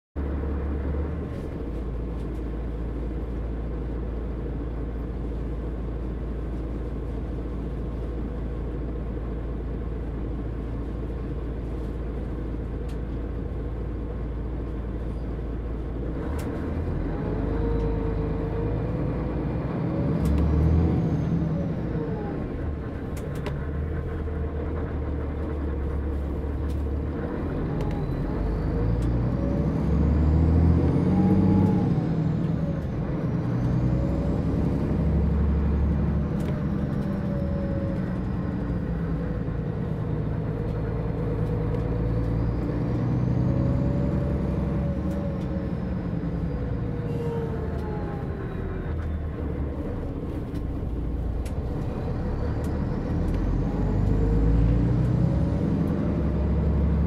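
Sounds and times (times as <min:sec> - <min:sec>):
bus diesel engine idling and revving: 0:00.0 - 0:57.0.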